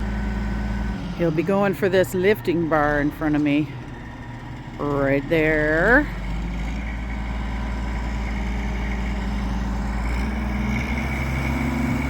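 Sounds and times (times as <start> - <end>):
crane engine idling: 0.0 - 12.0.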